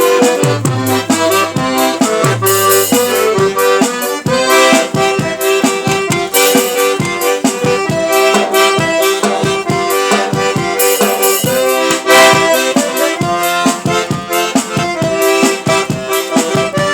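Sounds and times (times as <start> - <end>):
accordion playing folk song: 0.0 - 16.9.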